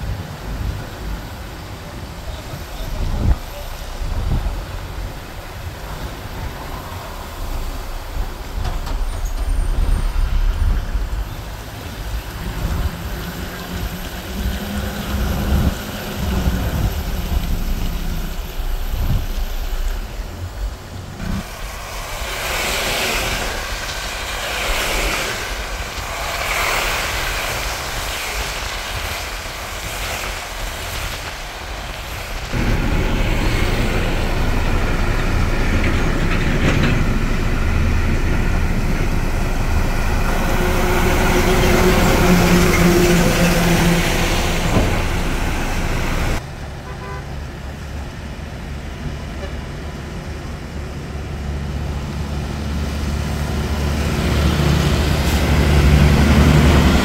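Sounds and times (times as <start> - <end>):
vehicle engine: 0.0 - 28.8, 32.4 - 57.0
tyres on wet road: 0.0 - 57.0.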